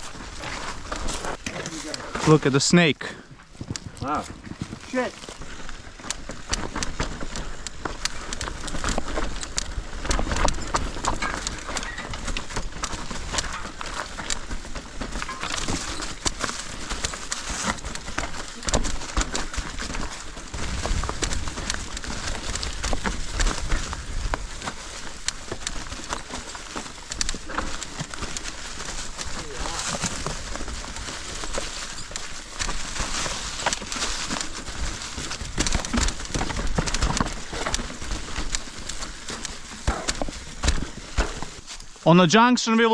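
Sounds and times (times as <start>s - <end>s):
bike rattling: 0.0s - 2.4s, 3.6s - 41.8s.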